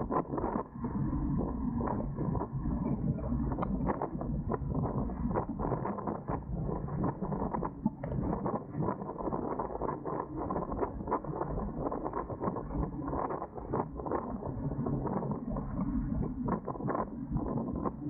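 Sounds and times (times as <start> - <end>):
water: 0.0 - 18.0.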